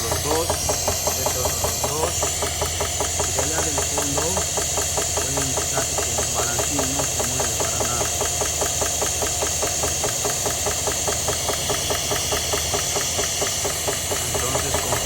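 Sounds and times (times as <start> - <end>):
engine idling with rapid knock: 0.0 - 15.0.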